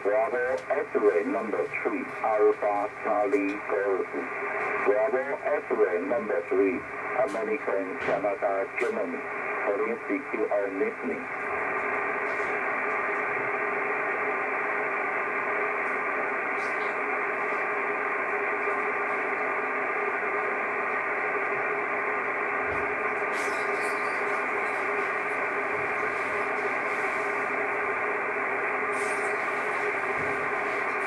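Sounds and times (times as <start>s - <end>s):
muffled radio band noise hiss: 0.0s - 31.0s.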